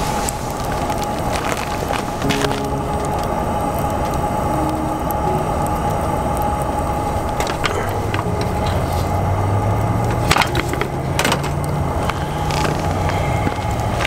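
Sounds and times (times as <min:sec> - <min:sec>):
steady background hum: 0:00.0 - 0:14.0
wood cracking and snapping: 0:00.0 - 0:14.0.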